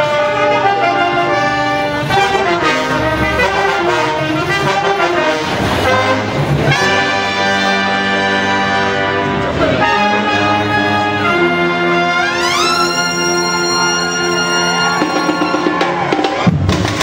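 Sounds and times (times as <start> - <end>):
brass band music: 0.0 - 17.0.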